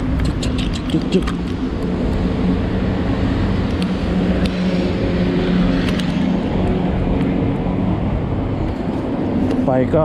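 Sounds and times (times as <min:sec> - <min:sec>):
rushing noise: 0:00.0 - 0:09.9.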